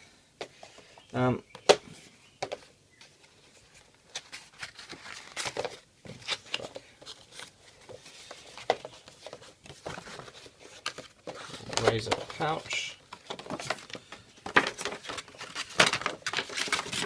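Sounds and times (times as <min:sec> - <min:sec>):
packaging rustling and crinkling: 0:03.3 - 0:17.0.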